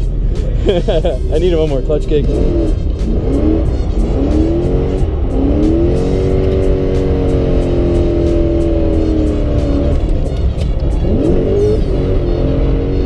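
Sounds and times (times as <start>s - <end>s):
car engine revving hard: 0.7s - 13.0s.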